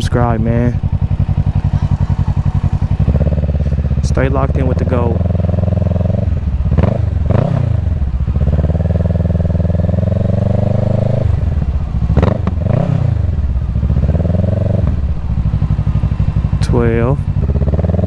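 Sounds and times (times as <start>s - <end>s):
motorcycle engine throttle blips: 0.0s - 18.0s.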